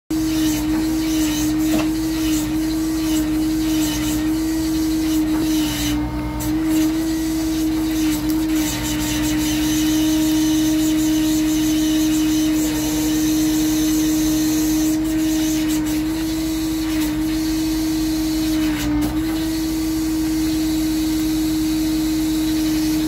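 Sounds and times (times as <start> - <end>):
drilling rig running: 0.1 - 23.0.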